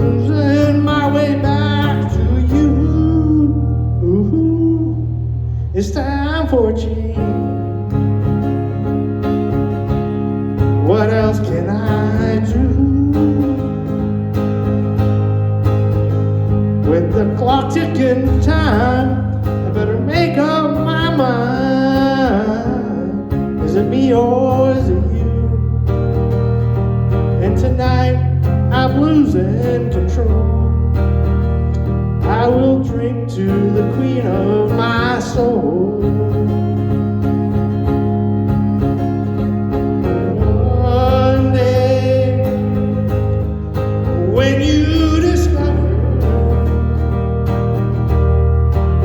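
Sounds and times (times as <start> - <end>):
acoustic guitar: 0.0 - 49.0
bass line: 0.0 - 49.0
country band playing: 0.0 - 49.0.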